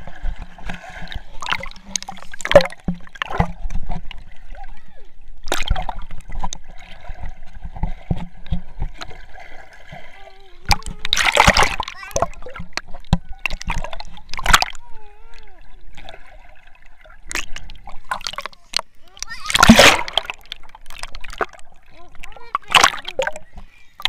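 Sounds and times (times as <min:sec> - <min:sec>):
pool water splashing: 0:00.0 - 0:24.0.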